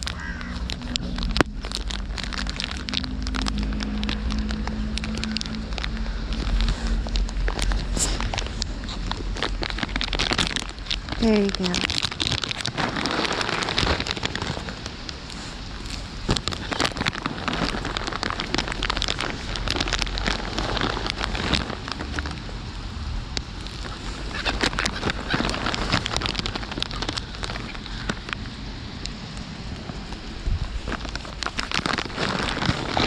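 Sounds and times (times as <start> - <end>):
raindrop clicks near microphone: 0.0 - 33.0
steady rain falling: 0.0 - 33.0.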